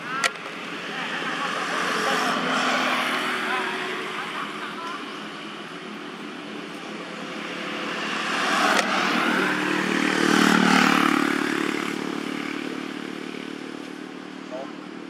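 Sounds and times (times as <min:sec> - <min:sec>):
passing vehicle engine hum: 0:00.0 - 0:15.0.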